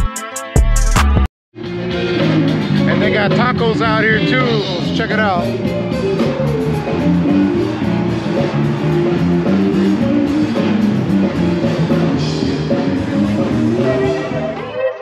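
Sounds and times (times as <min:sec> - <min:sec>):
rock music with guitar and drums: 0:00.0 - 0:14.8.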